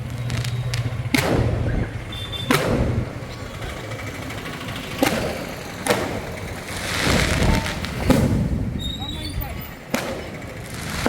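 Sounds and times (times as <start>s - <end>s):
sharp bangs: 0.0s - 11.0s
street noise: 0.0s - 11.0s.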